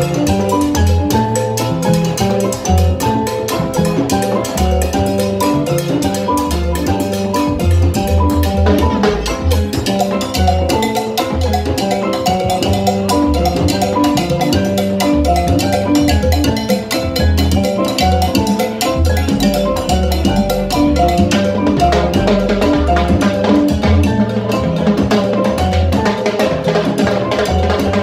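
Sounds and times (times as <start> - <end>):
hand and stick percussion: 0.0 - 28.0
mallet-struck melody notes: 0.0 - 28.0
upright bass line: 0.0 - 28.0.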